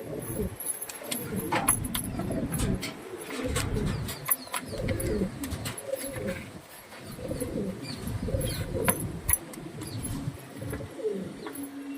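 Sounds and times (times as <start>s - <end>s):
pigeons cooing: 0.0s - 11.9s.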